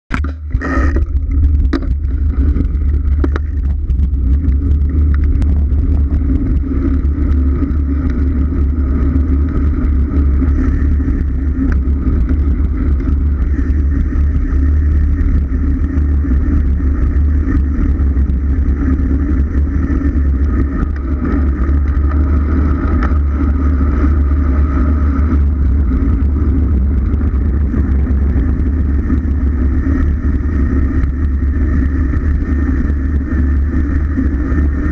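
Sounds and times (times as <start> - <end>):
rushing road noise: 0.1 - 34.9
wind buffeting microphone: 0.8 - 34.9.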